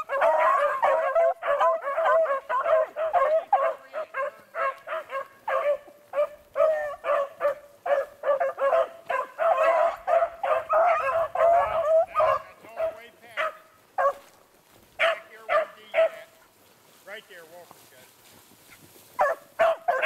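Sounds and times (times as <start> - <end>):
hounds baying: 0.0 - 16.6, 18.7 - 20.0.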